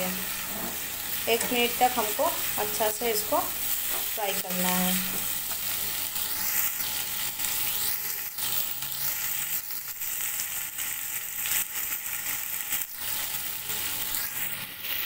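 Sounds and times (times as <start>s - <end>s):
onions frying in hot oil: 0.0s - 15.0s.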